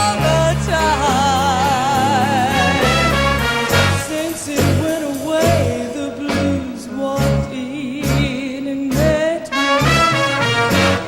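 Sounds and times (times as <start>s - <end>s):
band playing slow torch song: 0.0s - 11.0s
bass notes: 0.0s - 11.0s.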